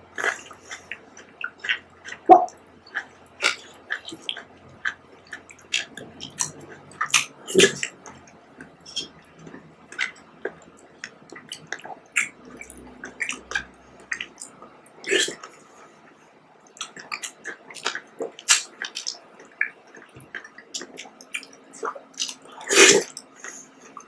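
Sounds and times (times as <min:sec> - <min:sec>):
wet squelches and chewing: 0:00.0 - 0:24.0.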